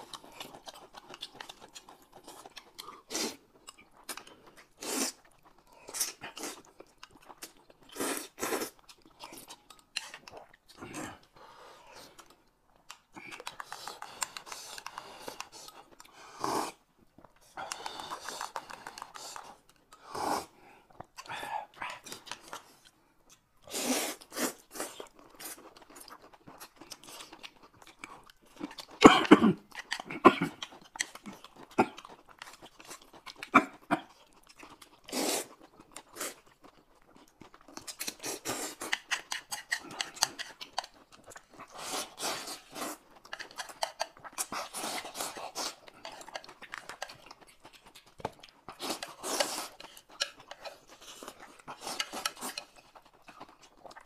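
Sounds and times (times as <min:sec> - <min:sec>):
noodles slurped: 0:00.0 - 0:22.9, 0:23.6 - 0:34.1, 0:34.8 - 0:54.0
chewing and lip smacking: 0:00.0 - 0:54.0.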